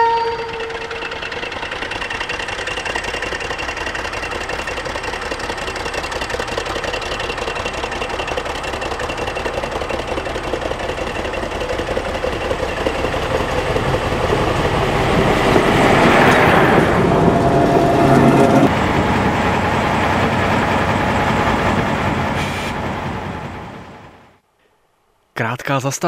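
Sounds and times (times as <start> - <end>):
wheels on rails: 0.0 - 24.3
railcar engine passing: 0.0 - 24.4.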